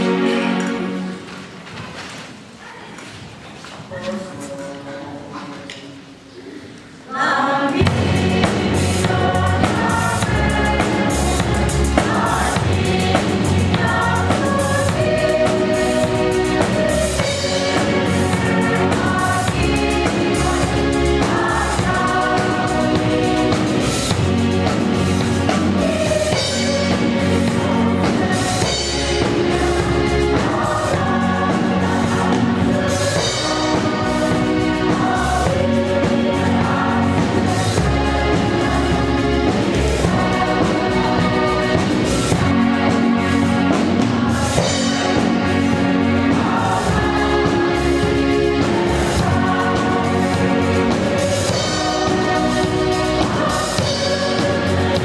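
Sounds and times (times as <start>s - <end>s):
choir singing in parts: 0.0s - 1.6s, 7.0s - 55.0s
drum kit: 7.7s - 55.0s
electric bass: 7.8s - 55.0s
keyboard: 7.8s - 55.0s.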